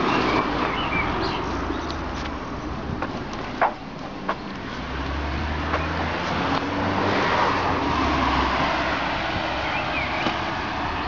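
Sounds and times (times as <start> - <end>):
vehicle passing on road: 0.0 - 11.0.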